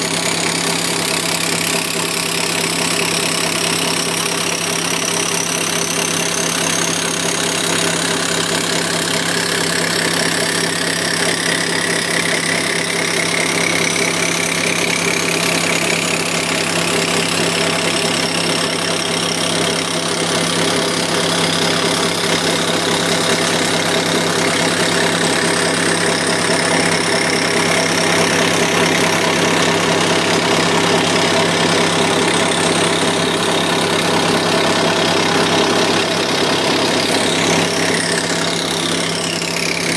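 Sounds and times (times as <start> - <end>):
rotary swager hammering hum: 0.0 - 39.9.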